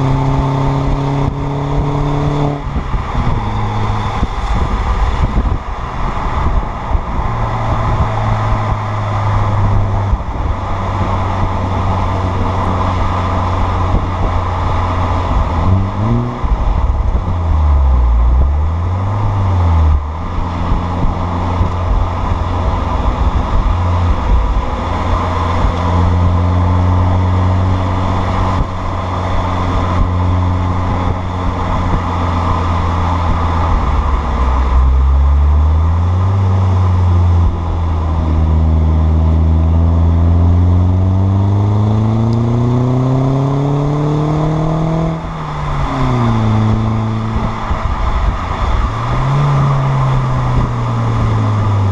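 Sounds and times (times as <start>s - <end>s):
car exhaust drone: 0.0s - 51.9s
road and wind noise: 0.0s - 51.9s.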